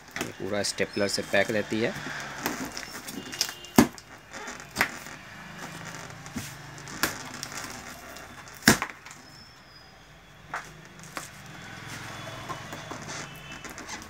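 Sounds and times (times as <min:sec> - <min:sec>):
tape and cardboard scraping: 0:00.0 - 0:09.4, 0:10.5 - 0:14.0.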